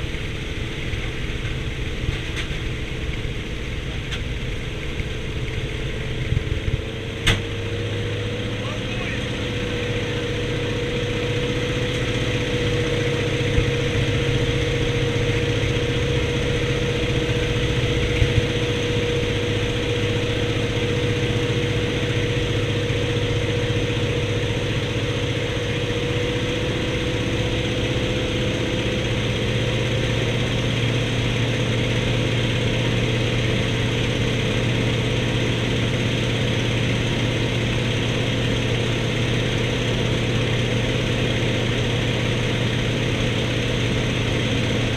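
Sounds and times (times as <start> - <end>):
radial piston engine droning: 0.0 - 44.9.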